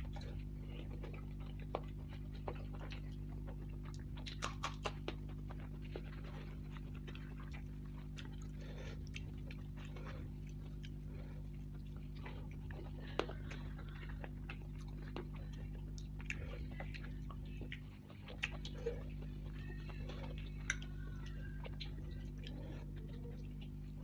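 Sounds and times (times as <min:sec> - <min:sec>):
chewing and wet mouth clicks: 0:00.0 - 0:24.0
fingers tearing bread: 0:00.0 - 0:24.0
steady low hum: 0:00.0 - 0:24.0.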